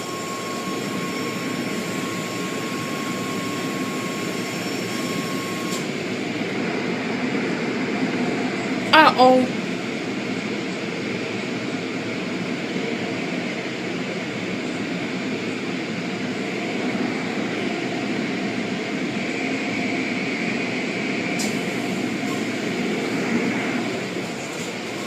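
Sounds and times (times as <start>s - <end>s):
car wash spray and machinery: 0.0s - 8.5s, 12.0s - 25.0s.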